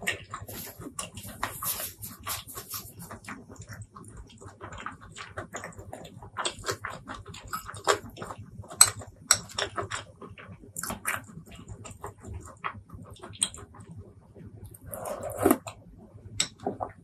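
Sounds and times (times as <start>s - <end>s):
wet chewing smacks and clicks: 0.0s - 14.0s.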